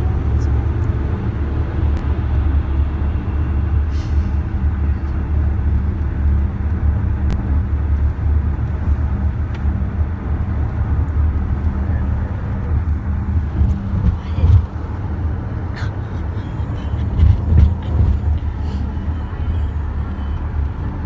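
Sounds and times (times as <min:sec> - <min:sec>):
car cabin road and wind noise: 0:00.0 - 0:21.0.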